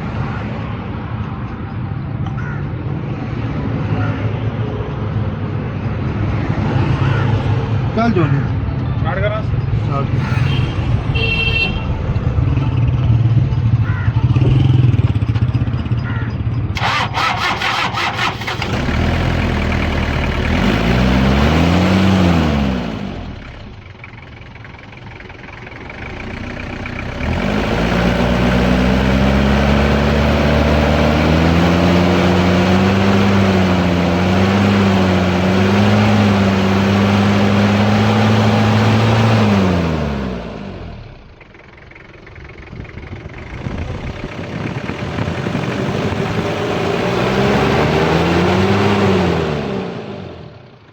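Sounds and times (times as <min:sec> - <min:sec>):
diesel engine revving: 0:09.5 - 0:50.9.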